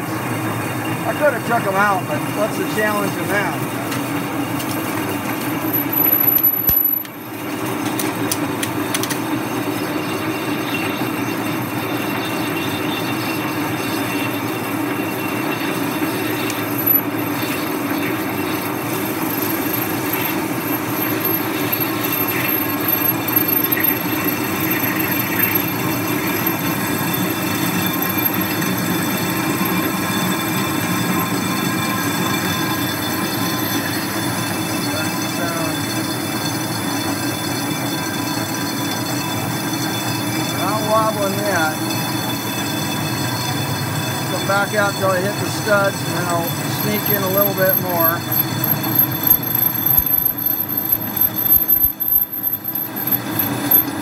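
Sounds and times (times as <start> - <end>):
metal lathe cutting metal: 0.0 - 54.0.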